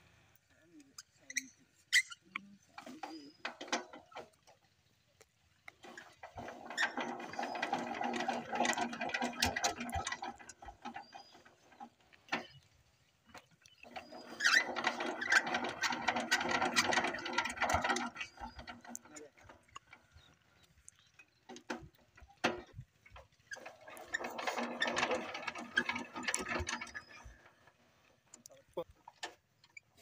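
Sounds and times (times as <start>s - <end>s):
diesel engine hand-cranked clatter: 0.4s - 30.0s.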